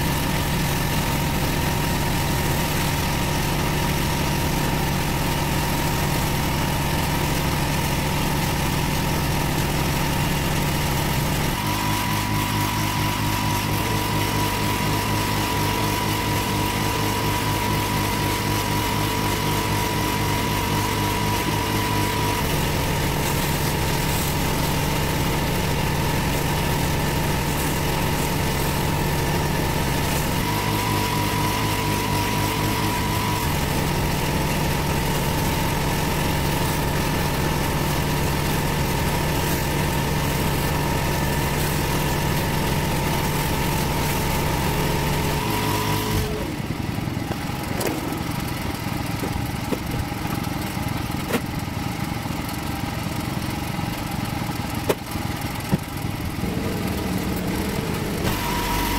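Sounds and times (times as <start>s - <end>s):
pressure washer engine running: 0.0s - 58.9s
rotary surface cleaner spinning: 0.0s - 58.9s.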